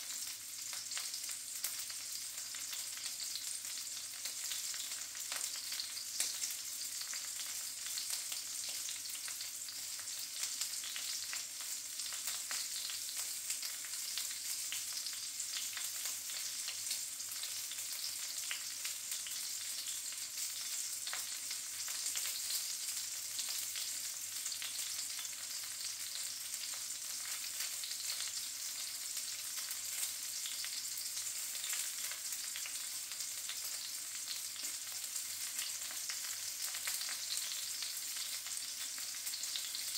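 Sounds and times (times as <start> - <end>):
sausages sizzling in a frying pan: 0.0 - 39.9.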